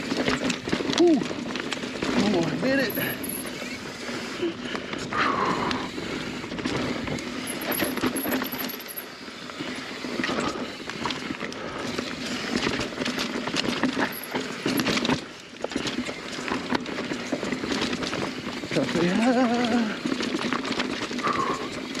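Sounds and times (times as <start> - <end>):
bike rattling and clattering: 0.0 - 22.0
bike tyres on dirt trail: 0.0 - 22.0.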